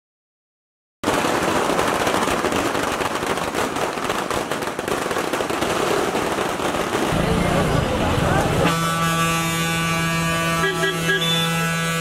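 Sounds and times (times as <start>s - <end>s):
firecrackers crackling: 1.0s - 12.0s.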